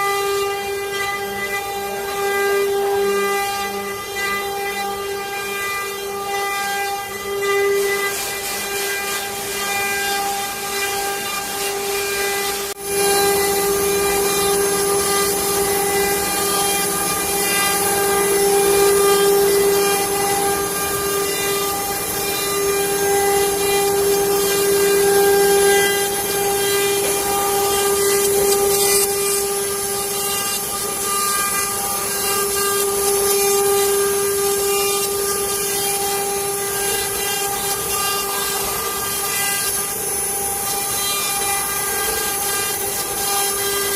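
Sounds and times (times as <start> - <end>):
router spindle whine: 0.0 - 43.9.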